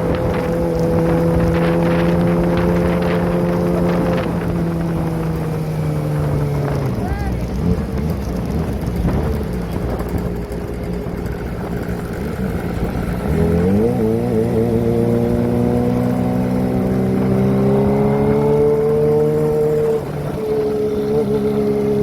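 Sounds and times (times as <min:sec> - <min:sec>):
motorcycle engine accelerating: 0:00.0 - 0:22.0
road and wind noise: 0:00.0 - 0:22.0.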